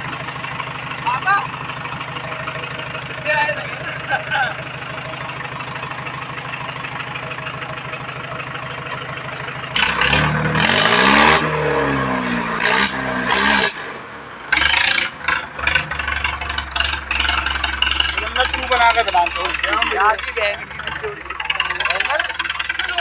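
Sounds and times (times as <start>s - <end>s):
diesel tractor engine idling: 0.0s - 23.0s
tractor engine revving: 0.0s - 23.0s.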